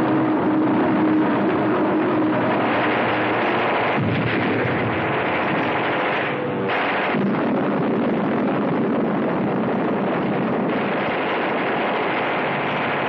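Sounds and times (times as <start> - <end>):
low held tone: 0.0 - 13.0
gunfire and explosions: 2.5 - 13.0.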